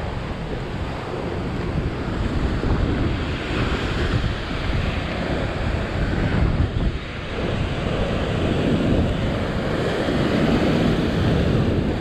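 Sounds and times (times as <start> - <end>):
ocean surf breaking on rocks: 0.0 - 12.0
wind buffeting microphone: 0.0 - 12.0.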